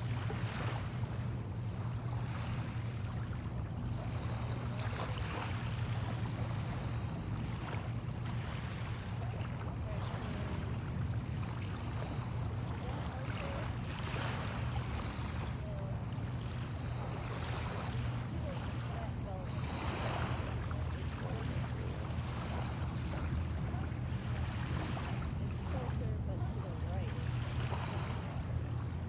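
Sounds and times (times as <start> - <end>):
small waves washing in: 0.0 - 29.0
steady low hum: 0.0 - 29.0.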